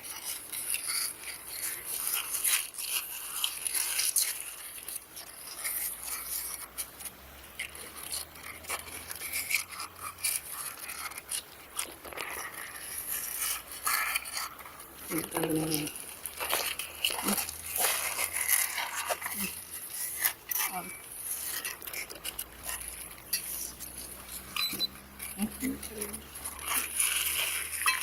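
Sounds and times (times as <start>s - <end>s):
scraping and rubbing: 0.0s - 28.0s.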